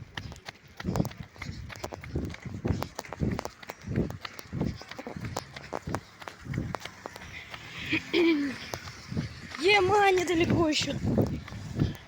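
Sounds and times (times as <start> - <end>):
running footsteps: 0.0 - 12.0.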